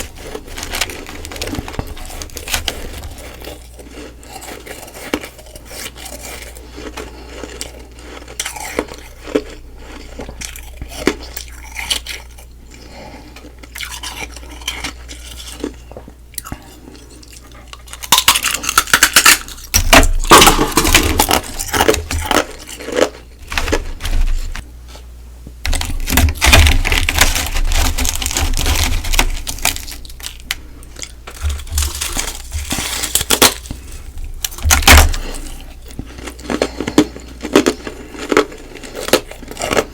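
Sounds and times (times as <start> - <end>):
ice being chewed: 0.0 - 24.7, 25.7 - 39.9.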